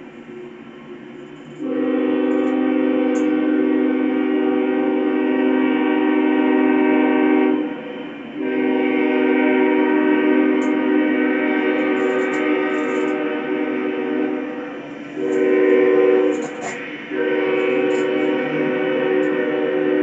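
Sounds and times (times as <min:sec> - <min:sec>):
locomotive air horn blasts: 0:01.6 - 0:20.0.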